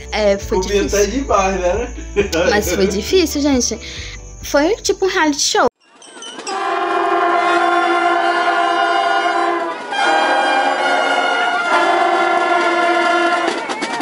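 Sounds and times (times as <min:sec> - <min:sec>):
long held chords: 0:00.0 - 0:04.1, 0:06.5 - 0:14.0.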